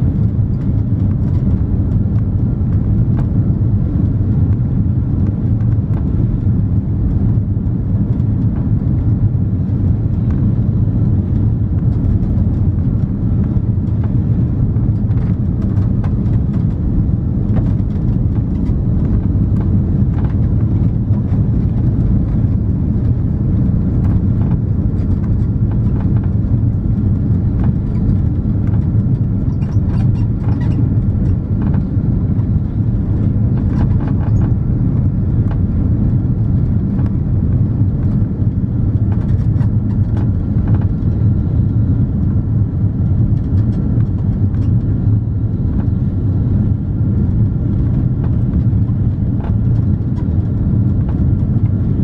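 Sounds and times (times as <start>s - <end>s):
aircraft engines rumbling: 0.0s - 52.0s
airflow over flaps: 0.0s - 52.0s.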